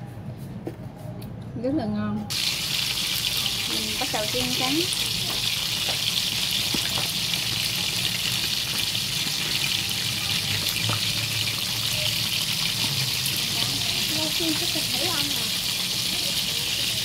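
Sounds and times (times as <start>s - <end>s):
fish sizzling in hot oil: 2.3s - 17.0s.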